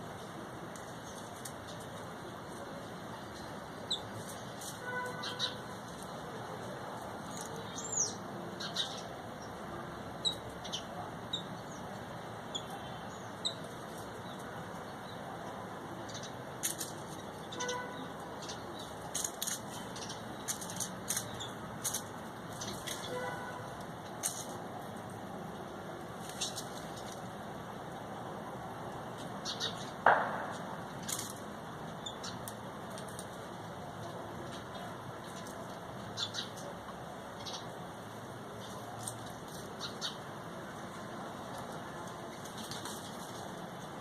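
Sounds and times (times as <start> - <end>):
small birds chirping: 0.0 - 44.0
steady background hiss: 0.0 - 44.0.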